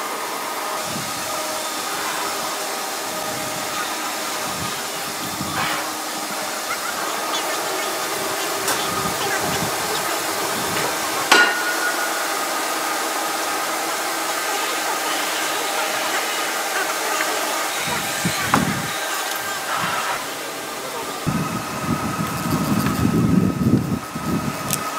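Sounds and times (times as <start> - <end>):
sawmill machinery running: 0.0 - 24.9.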